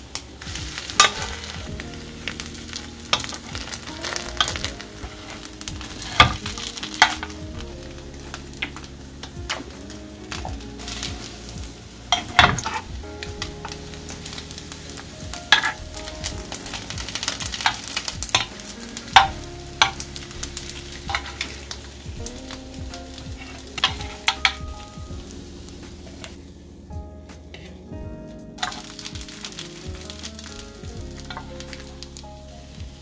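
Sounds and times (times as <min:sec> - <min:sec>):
food sizzling in a pan: 0:00.0 - 0:26.4, 0:28.6 - 0:33.0.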